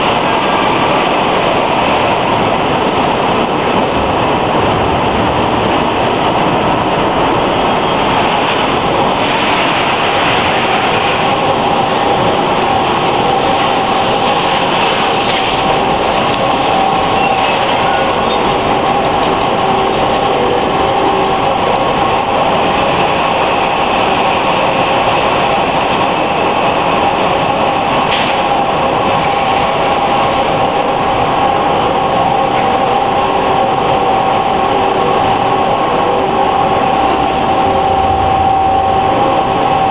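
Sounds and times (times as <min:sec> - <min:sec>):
high-pitched machine whine: 0:00.0 - 0:39.9
packaging line machinery din: 0:00.0 - 0:39.9.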